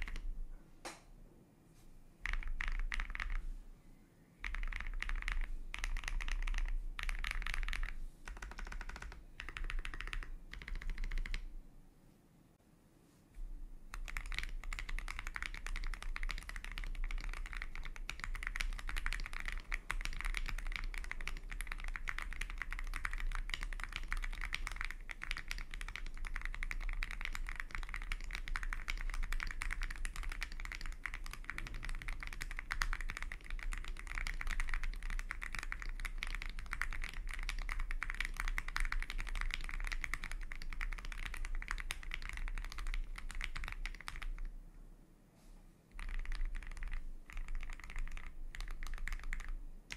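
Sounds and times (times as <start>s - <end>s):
fast typing on mechanical keyboard: 0.0s - 0.3s, 2.2s - 3.4s, 4.4s - 11.5s, 13.9s - 44.5s, 45.9s - 49.9s.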